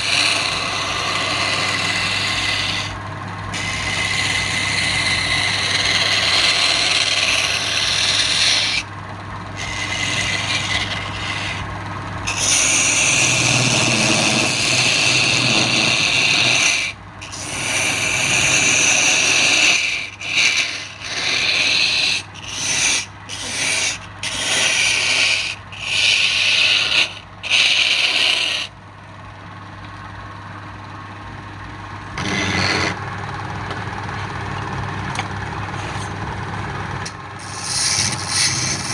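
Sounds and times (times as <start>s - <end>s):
tool scraping spinning wood: 0.0s - 28.8s, 31.8s - 34.4s, 35.4s - 38.9s
wood lathe humming: 0.0s - 28.8s, 32.0s - 33.4s, 35.6s - 38.9s.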